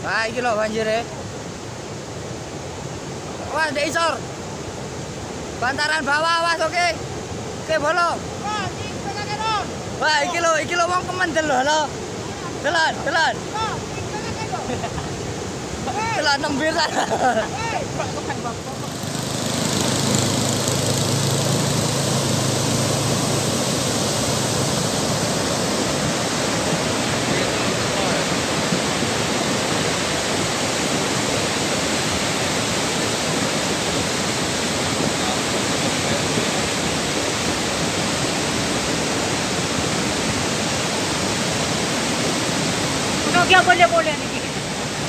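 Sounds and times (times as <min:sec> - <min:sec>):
mudflow rushing: 0:00.0 - 0:45.0.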